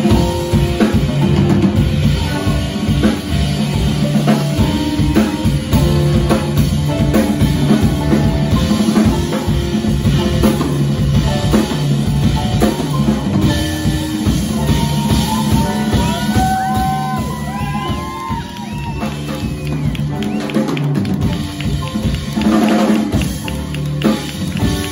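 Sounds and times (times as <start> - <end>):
jazz drum solo: 0.0 - 24.9.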